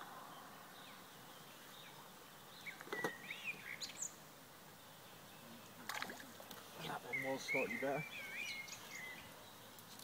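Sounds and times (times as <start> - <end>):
outdoor background hiss: 0.0 - 10.0
songbird singing: 0.0 - 10.0.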